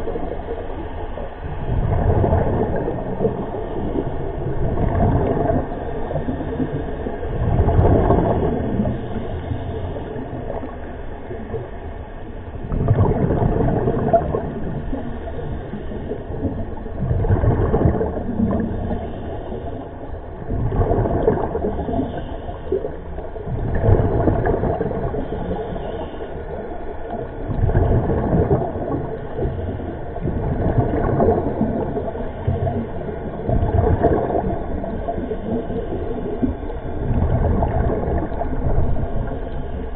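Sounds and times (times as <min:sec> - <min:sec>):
low underwater rumble: 0:00.0 - 0:39.9
diver exhaling bubbles underwater: 0:01.4 - 0:11.7, 0:12.6 - 0:39.9.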